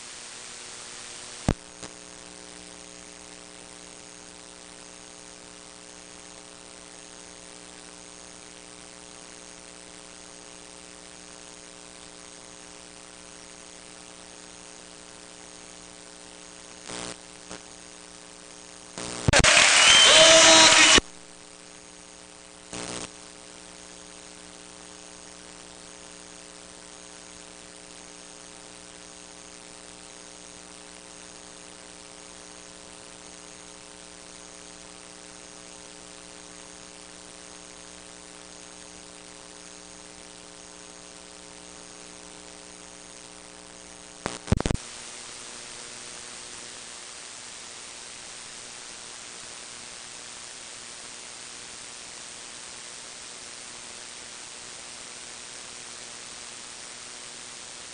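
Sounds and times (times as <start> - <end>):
tape hiss: 0.0 - 34.7, 40.5 - 57.9.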